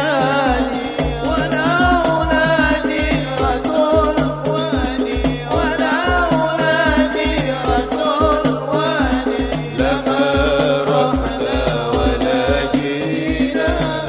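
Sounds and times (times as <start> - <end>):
deep bass drum beat: 0.0 - 14.0
frame drums: 0.0 - 14.0
man singing into a microphone: 0.0 - 14.0.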